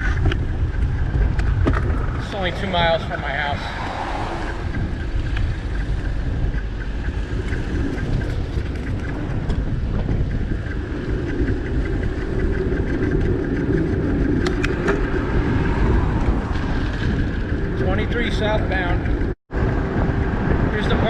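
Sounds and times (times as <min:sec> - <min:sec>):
road noise rumble: 0:00.0 - 0:21.0
wind on microphone: 0:00.0 - 0:21.0.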